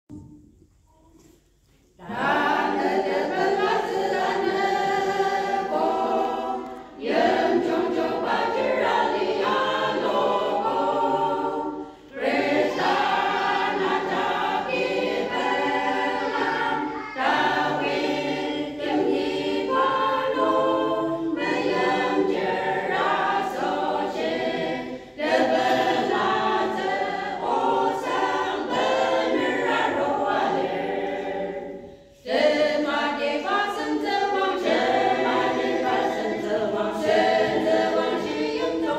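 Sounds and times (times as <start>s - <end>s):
women's choir singing: 2.0s - 38.9s.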